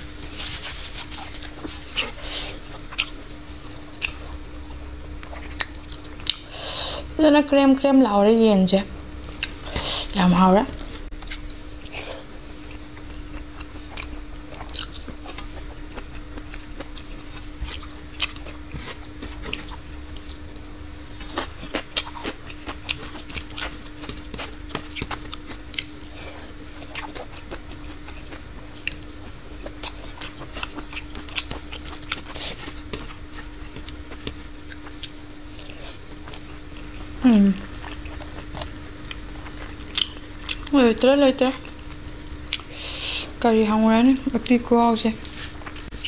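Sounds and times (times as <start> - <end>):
person chewing food: 0.0 - 7.0, 9.2 - 40.7, 41.5 - 43.4, 45.2 - 46.0
steady low hum: 0.0 - 46.0.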